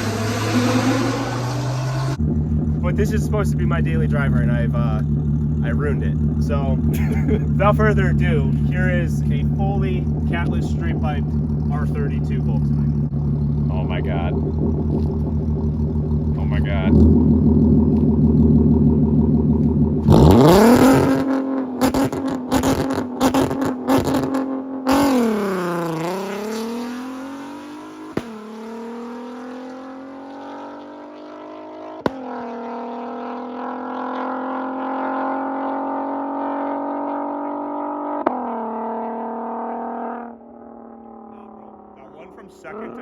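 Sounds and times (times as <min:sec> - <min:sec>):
car engine revving with pops: 0:00.0 - 0:41.4.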